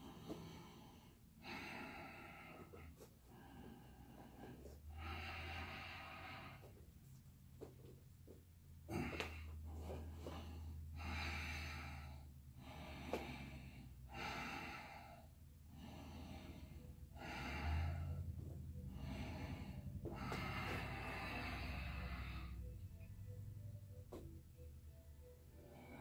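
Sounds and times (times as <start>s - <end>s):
person breathing slowly: 0.0s - 7.0s, 8.8s - 24.7s, 25.3s - 26.0s
steady low hum: 0.0s - 26.0s.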